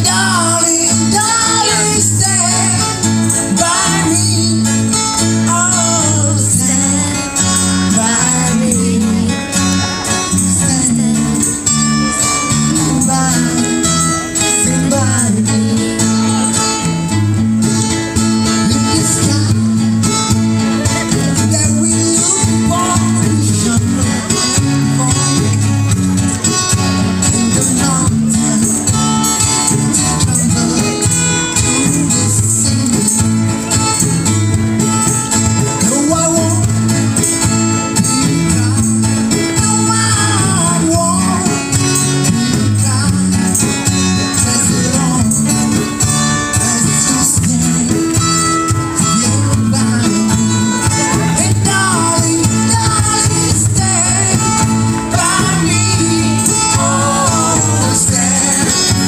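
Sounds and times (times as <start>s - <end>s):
person singing: 0.0s - 17.0s, 17.9s - 26.0s, 26.6s - 34.1s, 35.1s - 59.0s
bass line: 0.0s - 59.0s
box drum percussion: 0.0s - 59.0s
electric guitar: 0.0s - 59.0s
strummed acoustic guitar: 0.0s - 59.0s.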